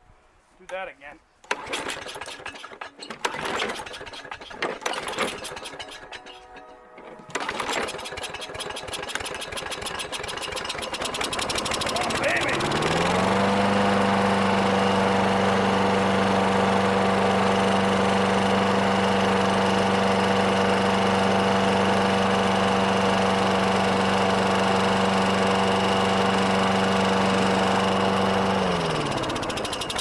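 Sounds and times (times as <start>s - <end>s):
lawn mower engine running: 1.4s - 30.0s.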